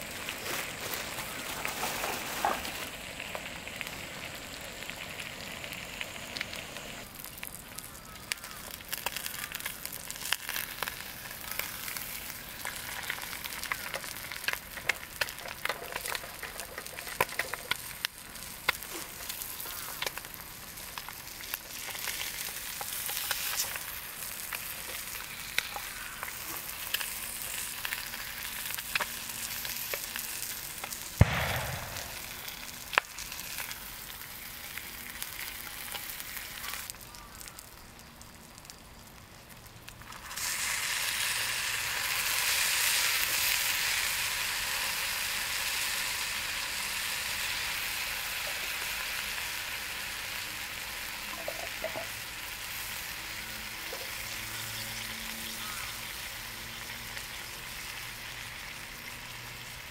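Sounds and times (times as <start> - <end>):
food sizzling in a pan: 0.0 - 38.8, 40.0 - 59.9.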